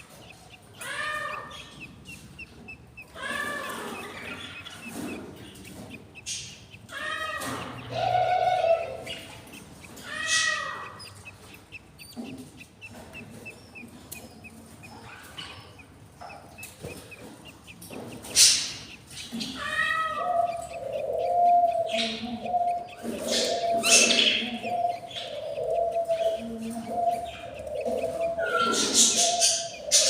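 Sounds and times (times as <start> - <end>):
budgies chirping and chattering: 0.0 - 30.0
budgies peeping: 0.0 - 30.0.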